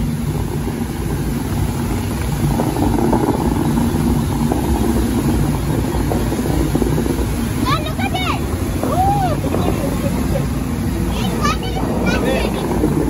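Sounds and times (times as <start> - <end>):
boat engine humming: 0.0 - 13.0
rushing hiss: 0.0 - 13.0.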